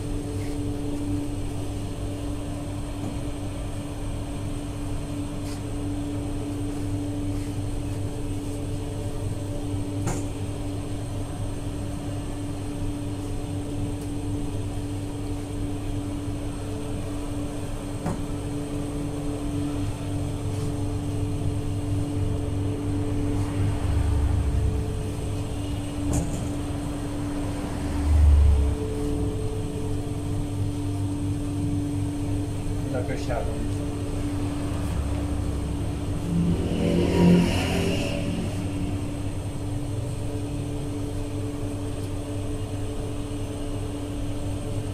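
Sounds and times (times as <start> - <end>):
machinery hum: 0.0 - 44.9.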